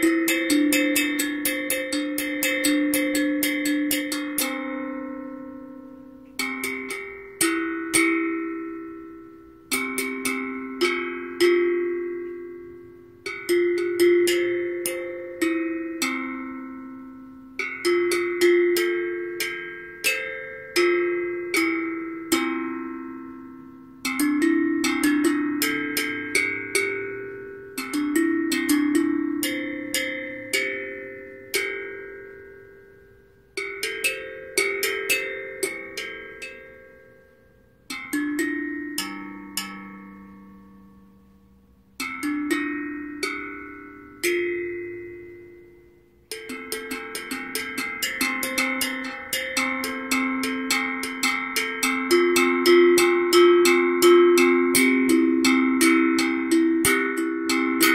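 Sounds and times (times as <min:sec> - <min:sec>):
steel tongue drum notes: 0:00.0 - 0:57.9.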